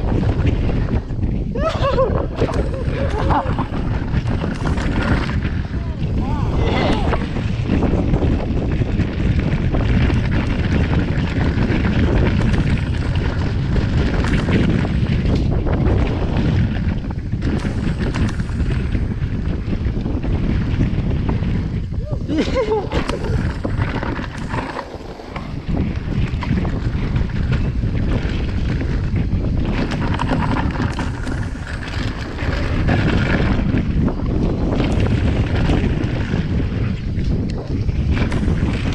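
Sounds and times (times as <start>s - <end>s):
bicycle tyre noise: 0.0s - 38.9s
bike rattling over rough trail: 0.0s - 38.9s
wind buffeting microphone: 0.0s - 38.9s.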